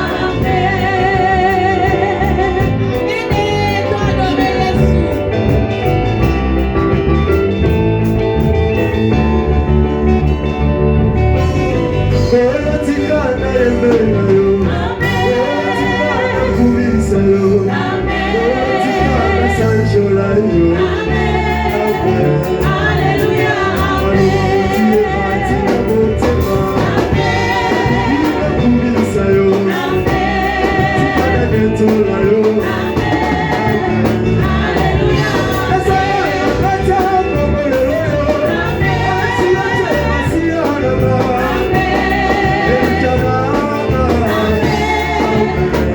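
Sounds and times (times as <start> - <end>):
voices singing gospel: 0.0 - 10.1, 11.5 - 45.9
band accompaniment: 0.0 - 45.9.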